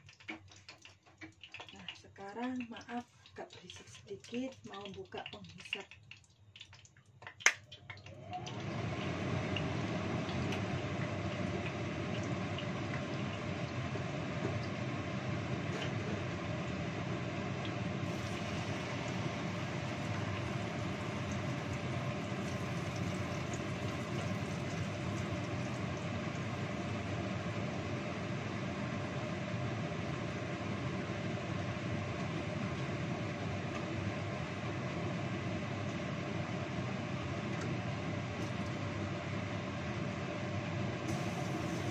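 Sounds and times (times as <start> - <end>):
extractor fan droning: 8.2 - 41.9.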